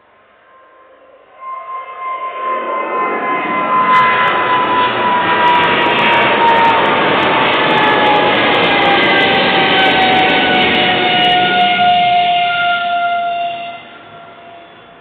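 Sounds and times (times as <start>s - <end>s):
jet engines rumbling and whining: 0.0s - 15.0s.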